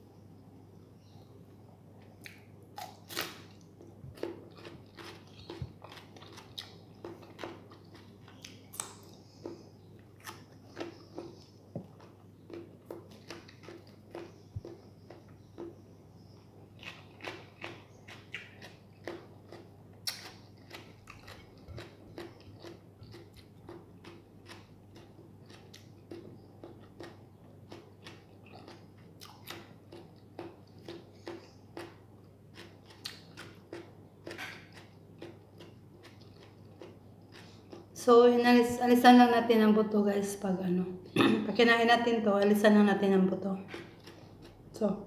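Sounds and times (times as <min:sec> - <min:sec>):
person chewing crunchy food: 0:02.0 - 0:38.0, 0:43.6 - 0:44.8.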